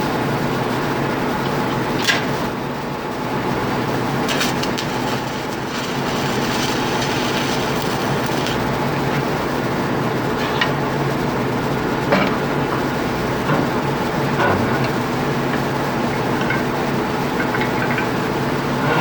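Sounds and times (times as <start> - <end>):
engine room machinery hum: 0.0 - 19.0.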